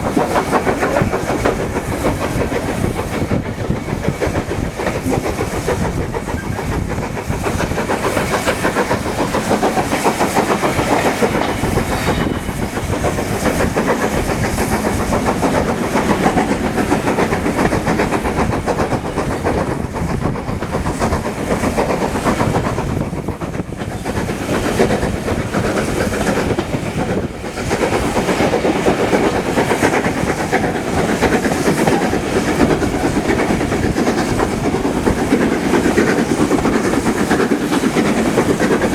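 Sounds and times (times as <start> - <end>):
train rumbling along track: 0.0 - 38.9
wheels clacking over rail joints: 0.0 - 38.9.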